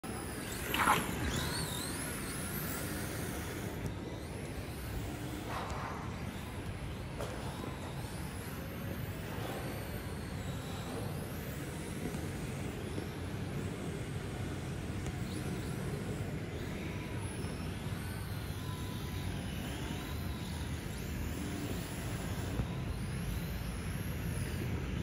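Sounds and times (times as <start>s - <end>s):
rc car electric motors whining: 0.0s - 25.0s.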